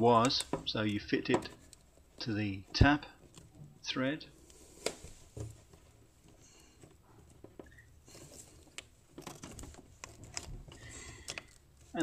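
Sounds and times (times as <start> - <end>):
fittings clicking and scraping: 0.0 - 12.0.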